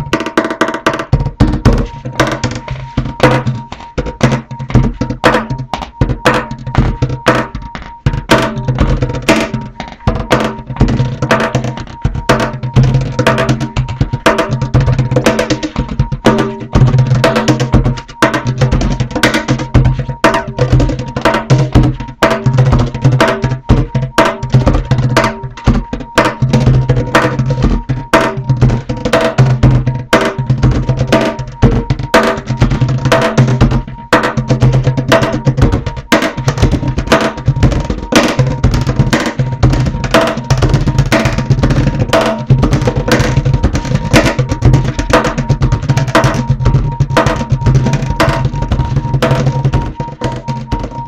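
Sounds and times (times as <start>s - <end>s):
drum and percussion beat: 0.0s - 51.0s.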